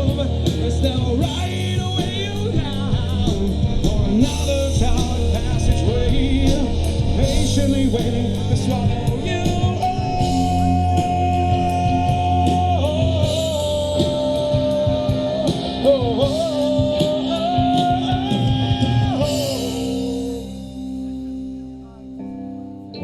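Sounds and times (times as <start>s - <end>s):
person singing wordlessly: 0.0s - 21.0s
live rock band playing: 0.0s - 23.0s.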